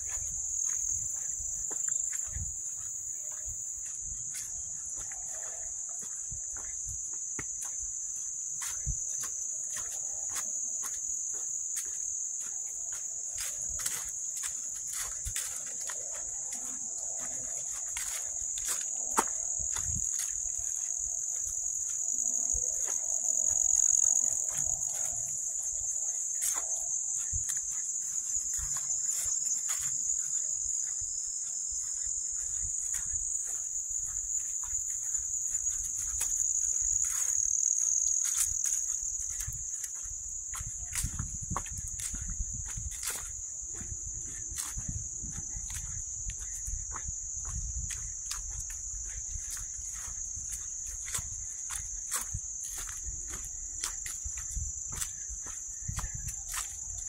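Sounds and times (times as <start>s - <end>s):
footsteps and brushing on trail: 0.0s - 57.0s
high-pitched insect chorus: 0.0s - 57.0s.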